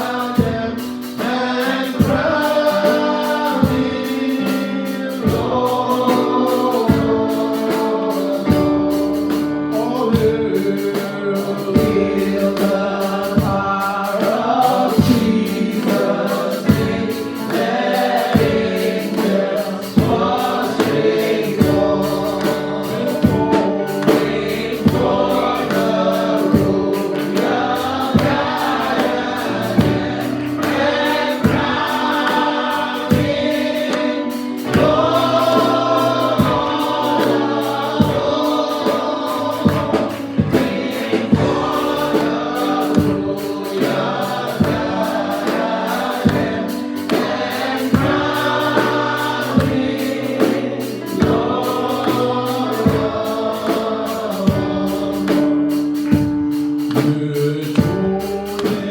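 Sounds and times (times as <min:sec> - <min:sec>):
band with steady drum beat: 0:00.0 - 0:58.9
gospel choir singing: 0:00.0 - 0:58.9.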